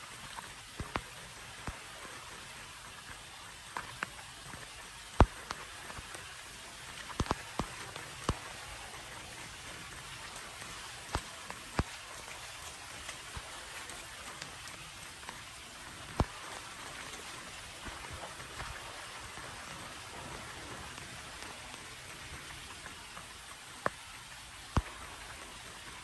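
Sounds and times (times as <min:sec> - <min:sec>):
rain on wet pavement: 0:00.0 - 0:26.0.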